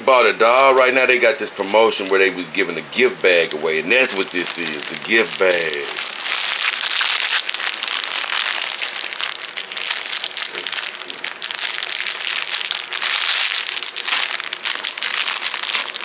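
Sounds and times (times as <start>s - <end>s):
packaging crinkling and rustling: 0.5s - 16.0s.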